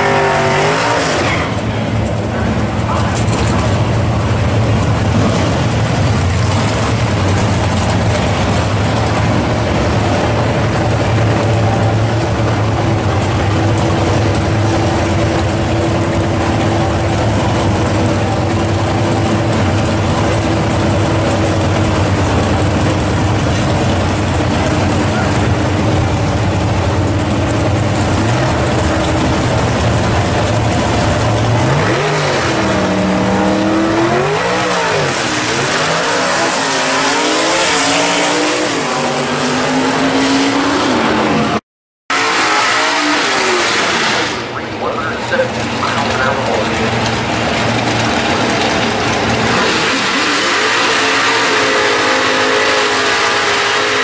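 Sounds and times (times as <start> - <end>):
drag-racing engines idling and revving: 0.0 - 54.0.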